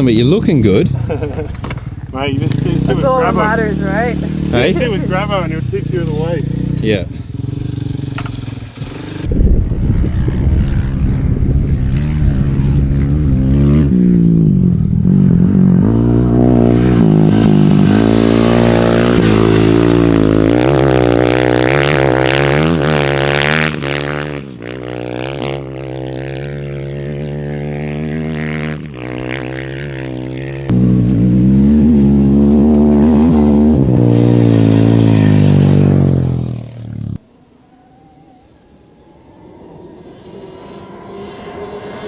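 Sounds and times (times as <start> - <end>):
dirt bike engine revving: 0.0 - 38.0, 38.6 - 42.0.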